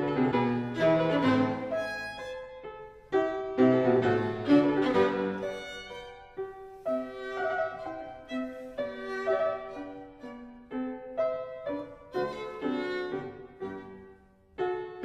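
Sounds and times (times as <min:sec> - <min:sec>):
bowed strings music: 0:00.0 - 0:15.0.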